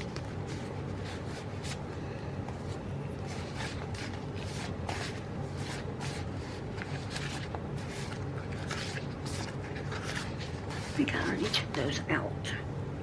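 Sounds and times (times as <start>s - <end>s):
paper rustling: 0.0s - 11.9s
steady low hum: 0.0s - 13.0s.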